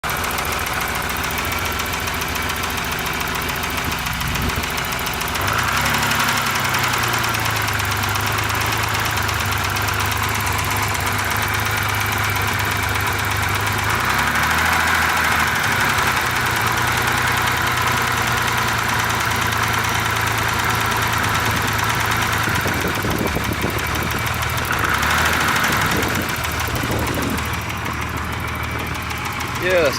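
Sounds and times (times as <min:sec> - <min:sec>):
car engine idling and revving: 0:00.0 - 0:29.9
engine knock or tap: 0:00.0 - 0:29.9.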